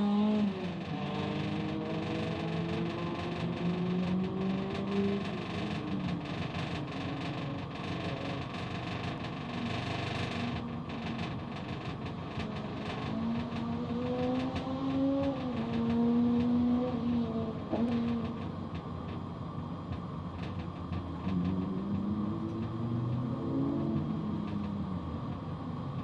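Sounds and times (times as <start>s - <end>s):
high-revving car engines: 0.0s - 26.0s.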